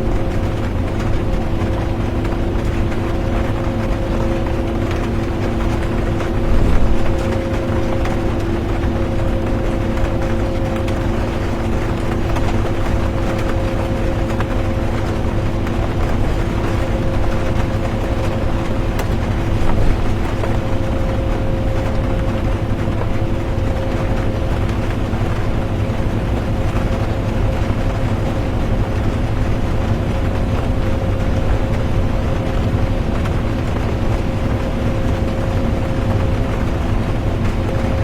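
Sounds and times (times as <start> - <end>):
bus engine and road rumble: 0.0 - 38.0
constant hum: 0.0 - 38.0
rain hissing on a bus: 0.0 - 38.0.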